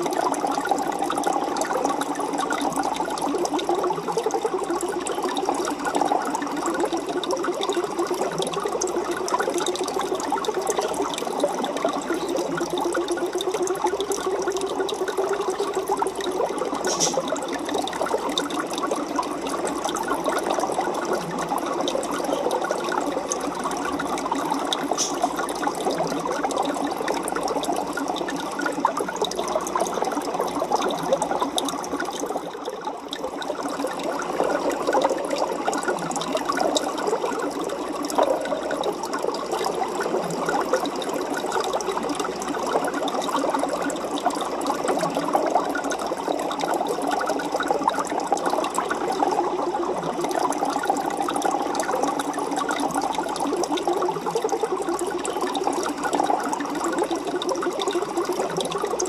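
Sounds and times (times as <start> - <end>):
aquarium water bubbling: 0.0 - 59.0.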